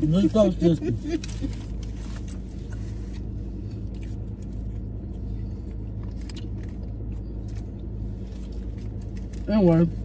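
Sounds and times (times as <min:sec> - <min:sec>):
car engine idling hum: 0:00.0 - 0:10.0.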